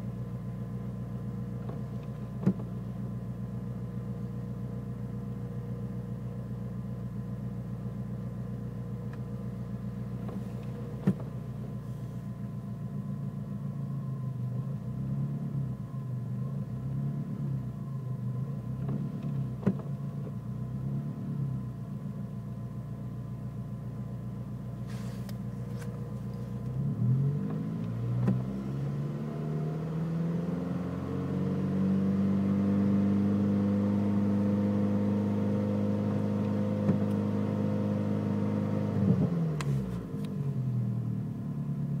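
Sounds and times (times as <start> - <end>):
car engine idling roughly and revving: 0.0 - 29.9, 33.1 - 42.0.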